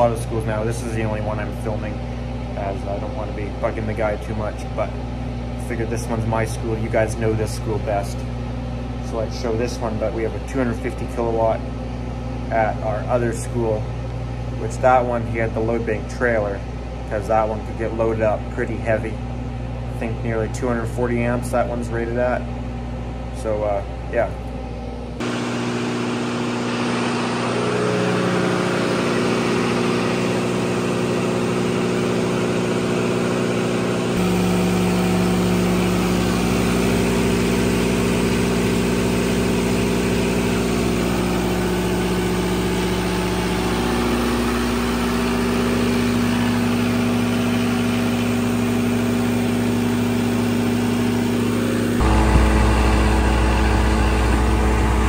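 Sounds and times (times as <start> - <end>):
generator engine running: 0.0 - 55.0.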